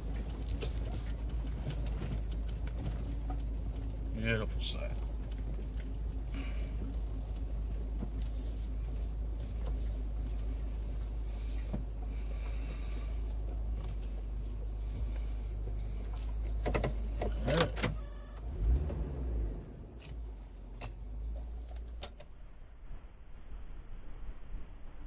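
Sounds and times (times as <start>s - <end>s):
vehicle engine rumble: 0.0s - 25.0s
faint insect chirps: 2.5s - 23.0s.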